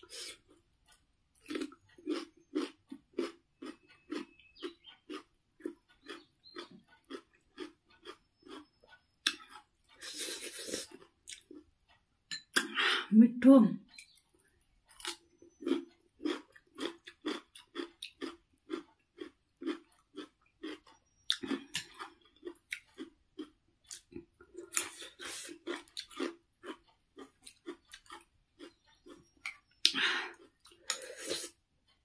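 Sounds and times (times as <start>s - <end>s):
chewing crunchy cucumber: 0.0s - 11.7s, 13.9s - 31.6s.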